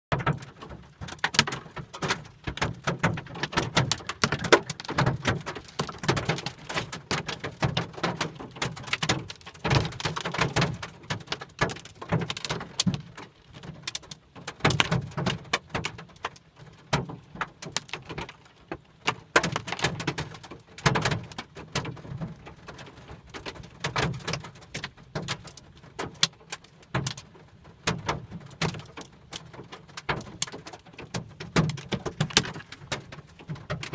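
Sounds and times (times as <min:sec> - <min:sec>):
hailstones hitting a car: 0:00.1 - 0:33.9.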